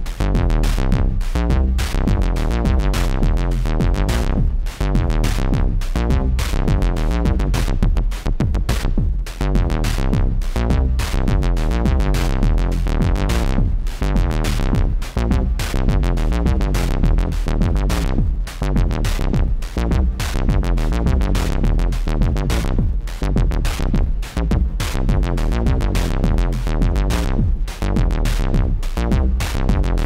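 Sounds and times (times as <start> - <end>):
drum machine hits: 0.0 - 30.0
funky synthesizer bass sequence: 0.0 - 30.0.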